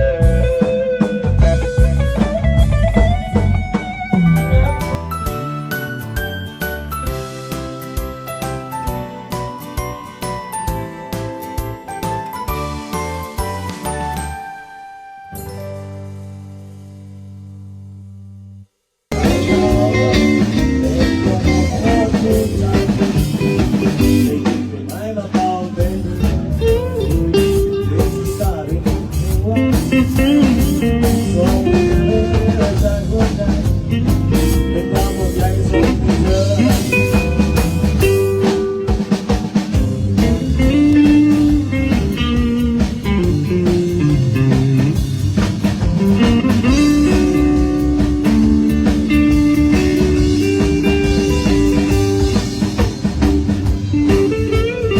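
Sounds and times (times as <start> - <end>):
bending electric guitar notes: 0.0 - 8.7, 19.1 - 54.9
drum kit: 0.0 - 14.6, 19.1 - 54.9.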